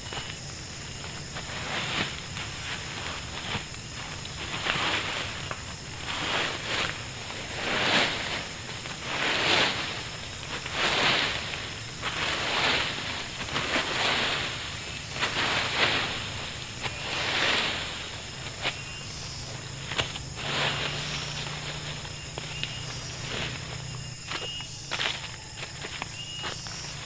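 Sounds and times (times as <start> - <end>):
broom sweeping leaf litter: 0.0 - 27.0.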